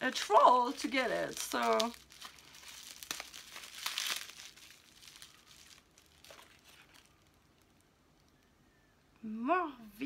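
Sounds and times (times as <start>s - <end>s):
plastic wrapping crinkling: 0.0s - 8.6s.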